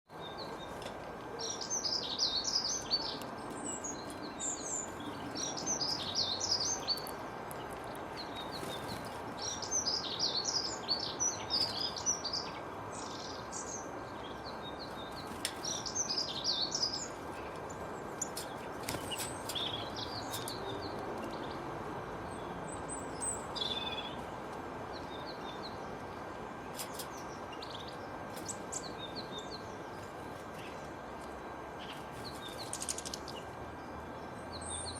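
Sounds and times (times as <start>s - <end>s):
small birds chirping: 0.1s - 34.9s
steady background hiss: 0.1s - 34.9s.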